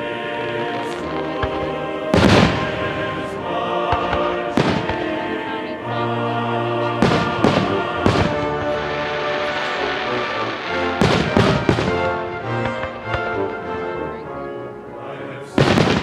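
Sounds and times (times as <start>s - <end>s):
fireworks exploding with echo: 0.0s - 14.4s, 15.6s - 16.0s
music: 0.0s - 16.0s.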